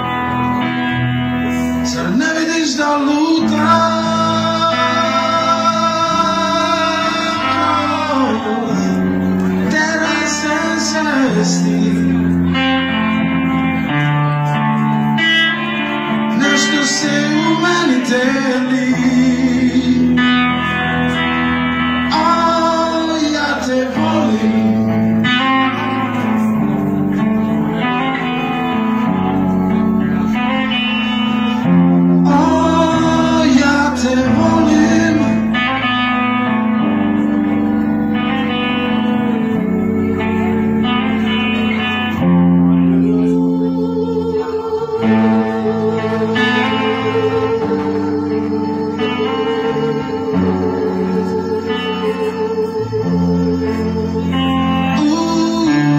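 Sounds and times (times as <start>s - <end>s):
electric guitar bending notes: 0.0s - 55.9s
live band playing: 0.0s - 55.9s
steady bass line: 0.0s - 55.9s.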